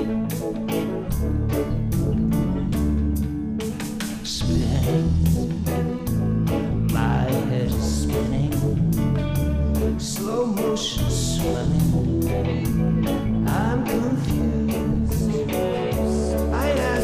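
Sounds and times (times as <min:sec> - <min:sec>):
band music with guitar and bass: 0:00.0 - 0:17.0.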